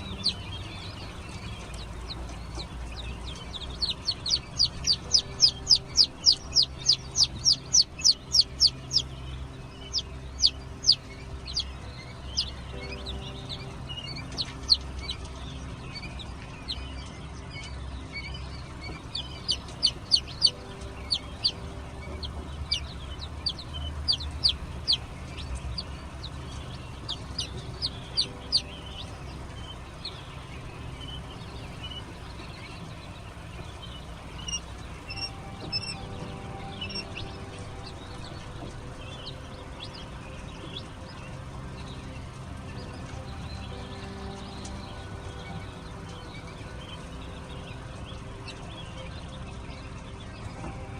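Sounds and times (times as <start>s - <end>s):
chicks peeping: 0.0s - 50.9s
low steady hum: 0.0s - 50.9s.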